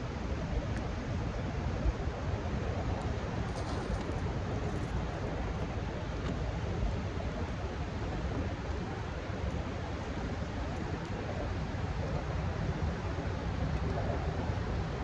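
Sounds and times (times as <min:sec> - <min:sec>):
fast-moving water: 0:00.0 - 0:15.0.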